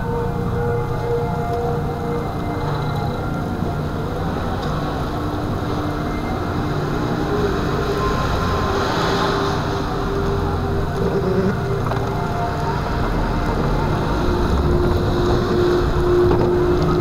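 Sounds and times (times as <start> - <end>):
faint drifting tones: 0.0 - 17.0
wind noise: 0.0 - 17.0.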